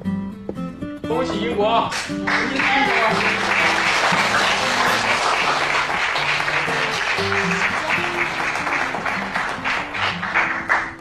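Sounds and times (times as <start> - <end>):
background music: 0.0 - 11.0
people applauding: 1.9 - 11.0.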